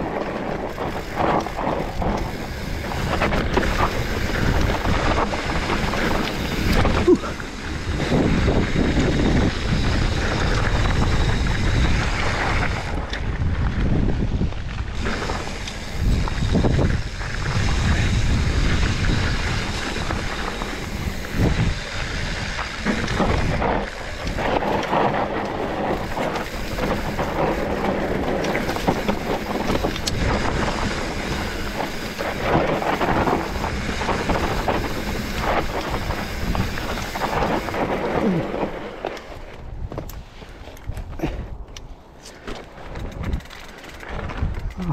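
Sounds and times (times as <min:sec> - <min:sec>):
bike knocks and rattles: 0:00.0 - 0:44.8
bike tyres rolling on dirt: 0:00.0 - 0:44.9
wind buffeting microphone: 0:00.0 - 0:44.9.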